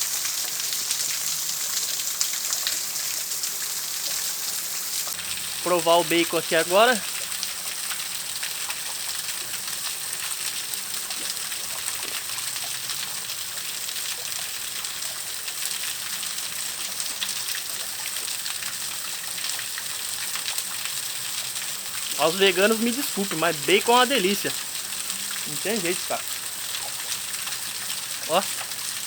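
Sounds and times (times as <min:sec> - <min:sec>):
bacon sizzling over campfire: 0:00.0 - 0:29.0.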